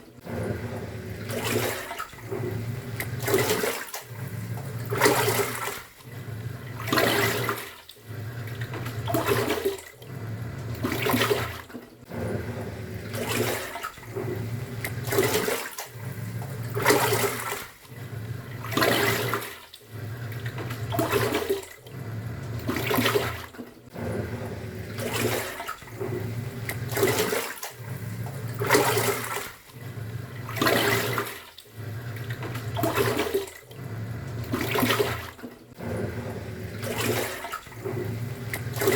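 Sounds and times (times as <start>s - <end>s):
washing machine motor hum: 0.0s - 38.9s
water swishing in washing machine: 0.0s - 38.9s.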